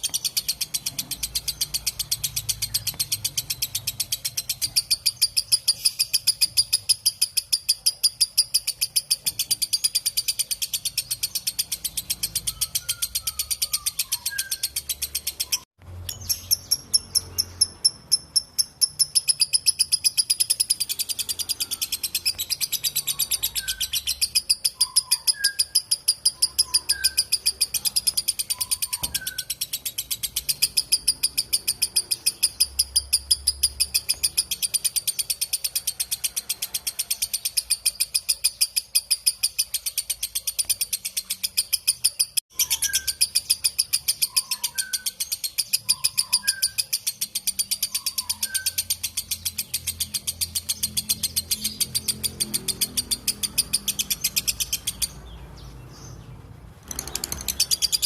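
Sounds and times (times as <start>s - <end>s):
lovebird shrill chattering: 0.0s - 55.4s, 56.8s - 58.0s.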